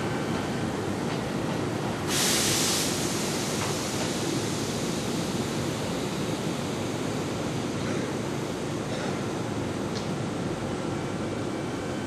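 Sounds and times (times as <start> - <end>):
electric train hiss and rumble: 0.0 - 12.0.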